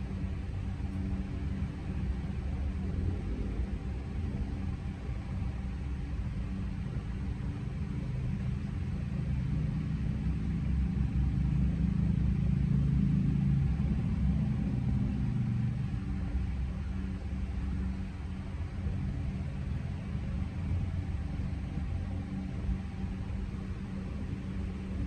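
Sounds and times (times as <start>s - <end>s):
low hum: 0.0s - 25.0s
vehicle engine rumble: 0.0s - 25.0s.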